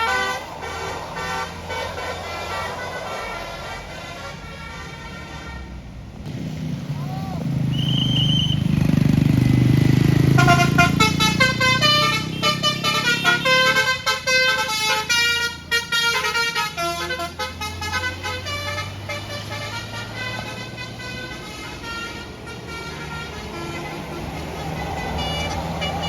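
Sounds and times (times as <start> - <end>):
bus horn playing a tune: 0.0 - 6.0, 10.2 - 26.0
bus engine rumble: 0.0 - 26.0.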